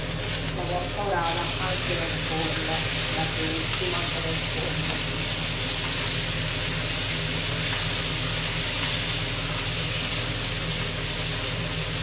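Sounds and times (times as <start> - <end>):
fish sizzling on grill pan: 0.0 - 12.0.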